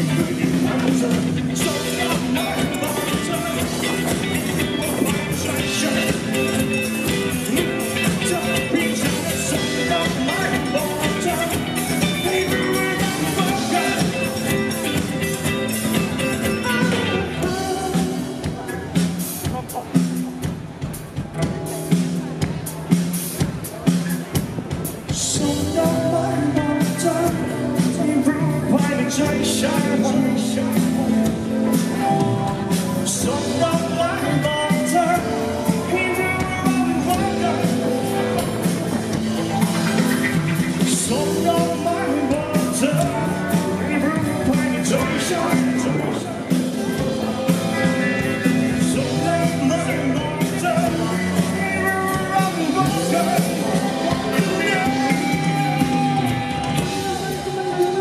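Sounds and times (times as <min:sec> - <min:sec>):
wavering electric guitar lead: 0:00.0 - 0:24.4, 0:25.0 - 0:58.0
live pop-rock band playing: 0:00.0 - 0:58.0.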